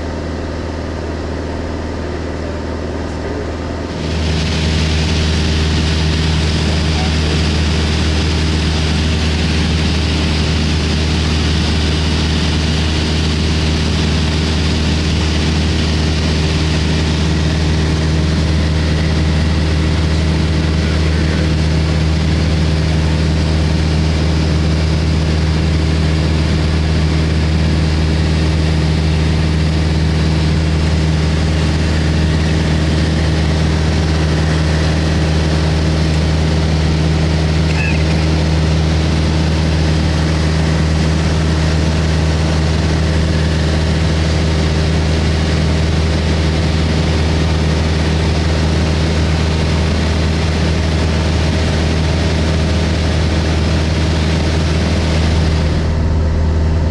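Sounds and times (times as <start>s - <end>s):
propeller airplane engine drone: 0.0s - 56.9s.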